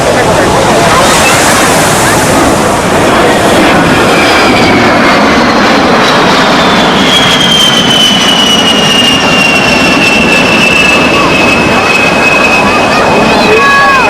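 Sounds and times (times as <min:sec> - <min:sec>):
jet flying past: 0:00.0 - 0:14.0.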